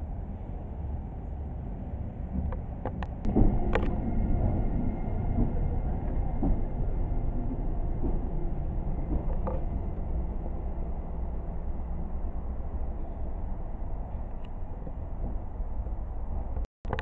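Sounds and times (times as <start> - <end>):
railcar rumbling past: 0.0 - 16.6.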